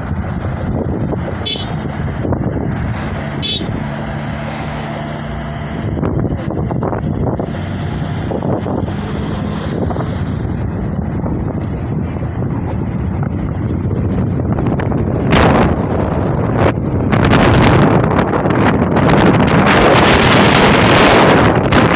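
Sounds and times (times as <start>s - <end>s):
car engine hum: 0.0s - 21.9s
road and wind noise: 0.0s - 21.9s.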